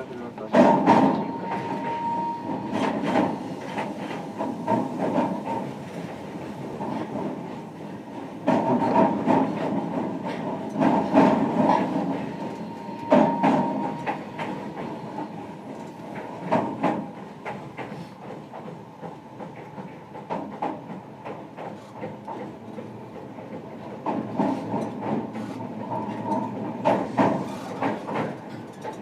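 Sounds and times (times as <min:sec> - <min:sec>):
train running rumble: 0:00.0 - 0:29.0
wheels clacking over rail joints: 0:02.7 - 0:29.0.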